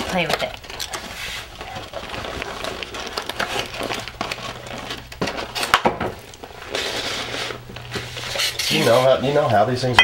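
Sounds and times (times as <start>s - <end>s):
takeout containers rustling and clattering: 0.0s - 10.0s.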